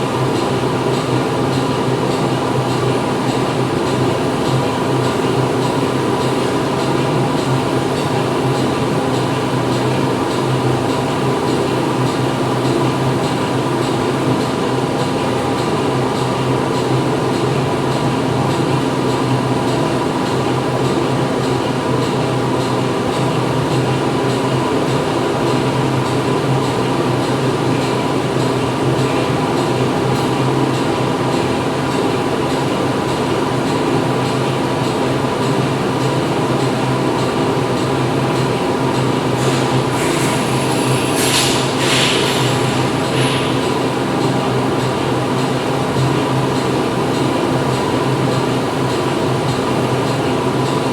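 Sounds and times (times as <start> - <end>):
factory machinery humming: 0.0 - 50.9.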